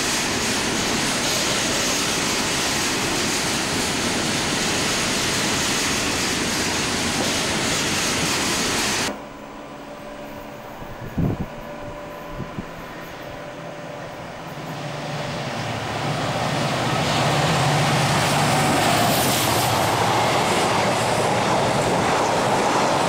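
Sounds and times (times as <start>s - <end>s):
train wheels rushing on rail: 0.0s - 23.0s.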